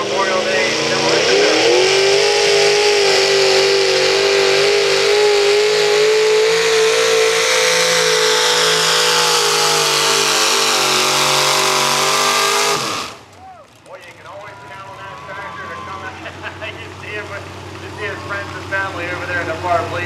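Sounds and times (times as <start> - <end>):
tractor engine revving under load: 0.0 - 13.4, 14.7 - 20.0.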